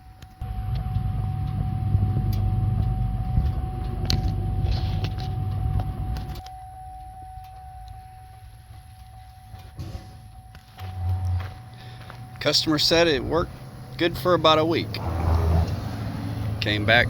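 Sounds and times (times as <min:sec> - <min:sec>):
engine rumbling: 0:00.0 - 0:17.0
engine ticking: 0:00.0 - 0:17.0.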